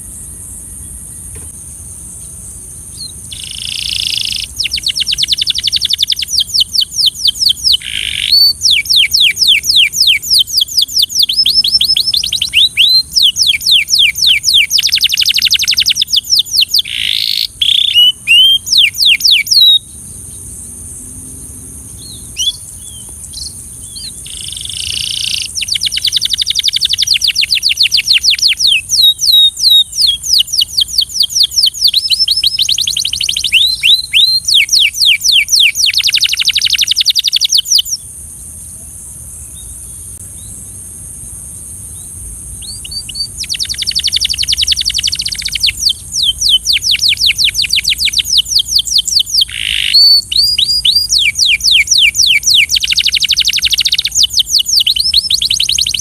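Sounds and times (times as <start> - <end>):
high-pitched hiss: 0.0 - 56.0
canary singing trills: 2.2 - 20.6, 21.3 - 38.1, 41.9 - 56.0.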